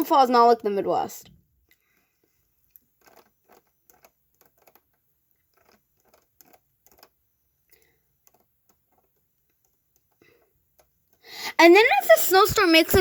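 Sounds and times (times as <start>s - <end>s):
faint keyboard typing: 1.6s - 13.0s.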